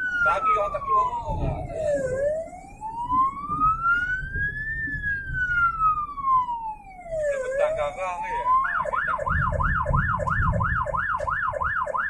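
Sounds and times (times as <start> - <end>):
ambulance siren wailing: 0.0 - 12.0
road noise rumble: 0.0 - 12.0.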